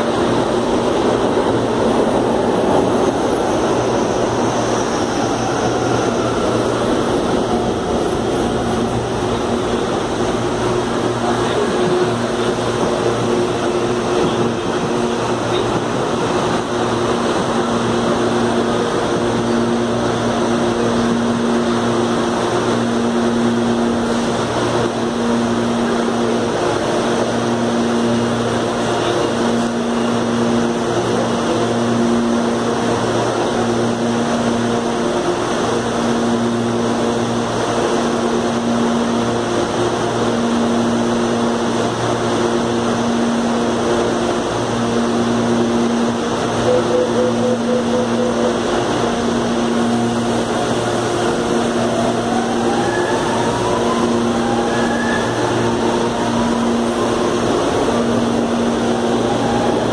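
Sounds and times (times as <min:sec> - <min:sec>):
electric train equipment humming: 0:00.0 - 0:59.9.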